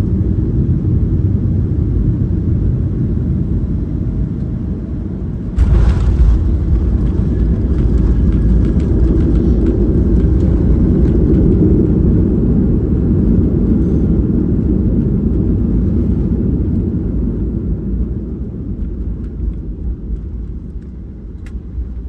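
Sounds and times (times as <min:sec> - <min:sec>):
jet landing rumble in cabin: 0:00.0 - 0:22.0.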